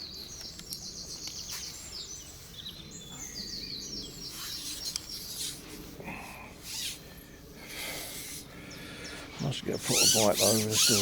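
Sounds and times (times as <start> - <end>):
small songbirds chirping: 0.0 - 7.5, 8.2 - 11.0
outdoor background noise: 0.0 - 11.0.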